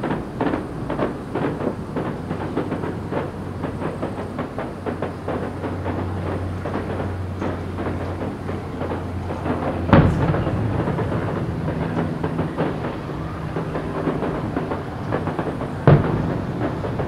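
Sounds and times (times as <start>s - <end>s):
firework shells booming: 0.0s - 17.0s
fireworks crackling: 0.0s - 17.0s.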